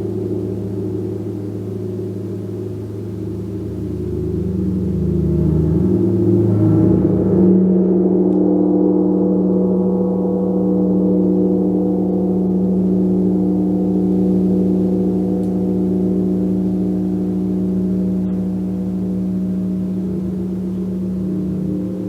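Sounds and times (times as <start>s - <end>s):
gong humming drone: 0.0s - 22.0s.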